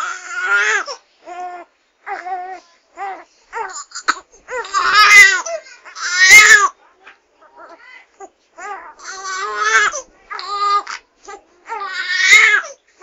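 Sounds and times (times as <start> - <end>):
baby crying: 0.0 - 6.7, 7.6 - 12.8.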